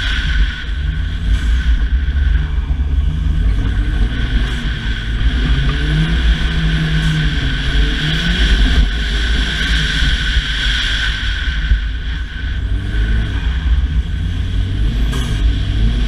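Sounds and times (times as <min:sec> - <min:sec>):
rally car engine under load: 0:00.0 - 0:16.0.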